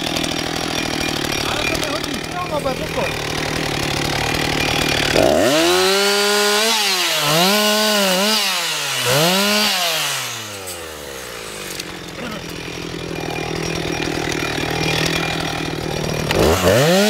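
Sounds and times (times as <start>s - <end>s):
chainsaw cutting a log: 0.0s - 17.0s.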